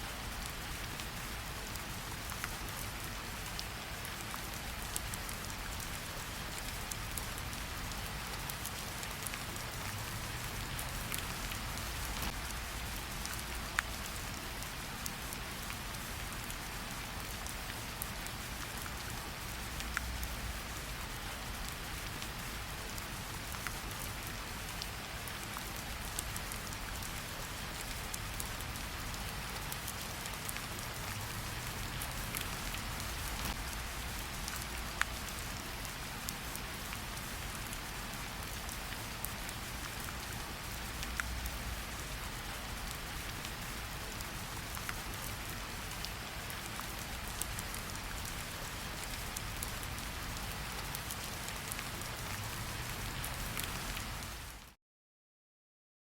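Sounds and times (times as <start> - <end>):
raindrops ticking on surface: 0.0 - 54.8
steady rain hiss: 0.0 - 54.8.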